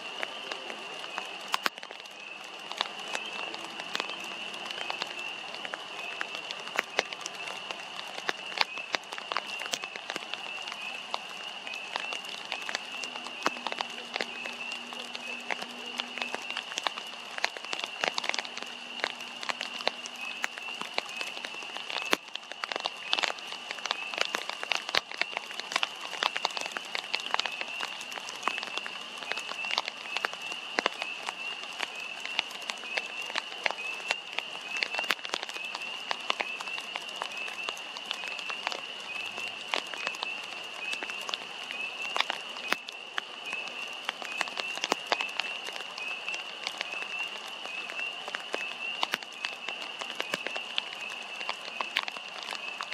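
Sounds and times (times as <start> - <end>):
frogs calling: 0.0 - 52.9
raindrops dripping and pattering: 0.0 - 52.9.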